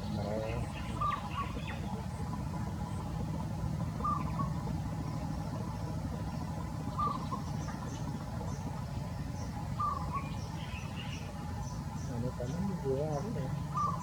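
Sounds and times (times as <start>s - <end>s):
bird chirping: 0.0s - 3.2s, 4.0s - 14.0s
steady low rumble: 0.0s - 14.0s.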